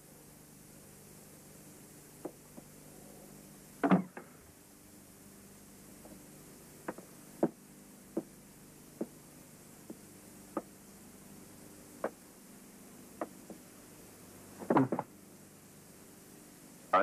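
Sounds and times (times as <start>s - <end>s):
faint film sound hum: 0.0s - 17.0s.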